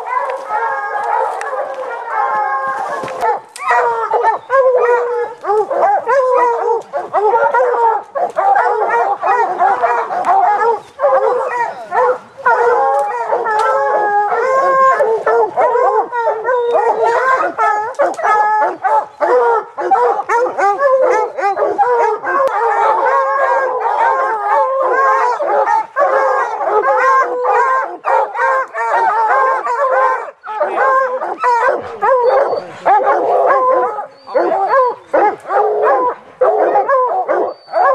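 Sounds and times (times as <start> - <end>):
hounds baying and barking: 0.0 - 37.9.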